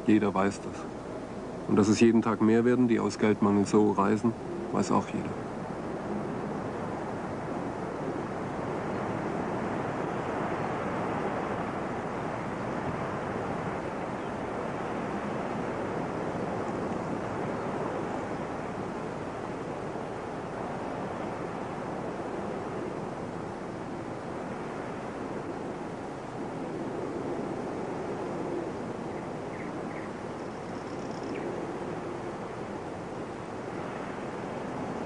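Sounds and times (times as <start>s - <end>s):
steady rushing noise: 0.0s - 35.0s.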